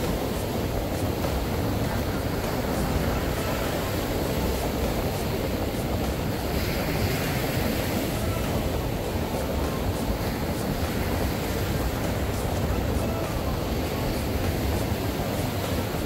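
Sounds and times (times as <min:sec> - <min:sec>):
ocean surf on beach: 0:00.0 - 0:16.0
wind rumbling on microphone: 0:00.0 - 0:16.0.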